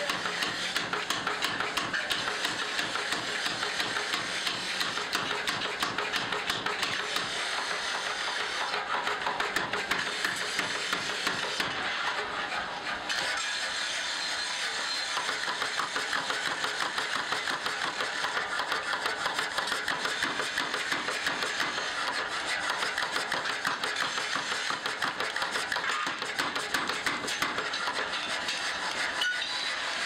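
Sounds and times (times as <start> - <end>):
power hammer striking hot steel: 0.0 - 30.0.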